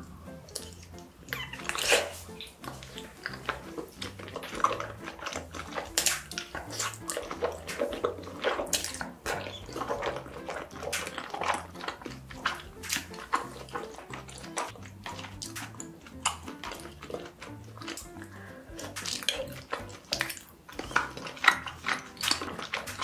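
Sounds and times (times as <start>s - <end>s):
wet chewing and mouth smacking: 0.0s - 23.0s.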